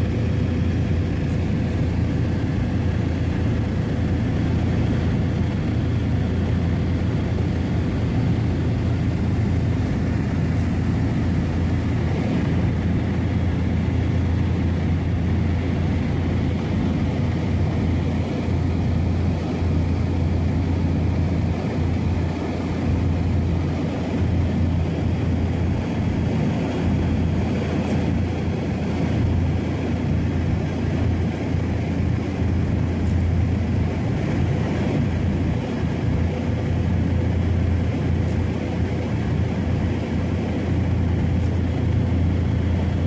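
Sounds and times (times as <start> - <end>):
propeller aircraft engine droning: 0.0 - 43.0.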